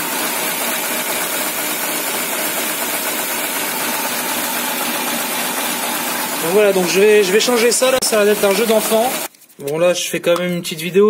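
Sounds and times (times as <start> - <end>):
car engine idling roughly: 0.0 - 9.3.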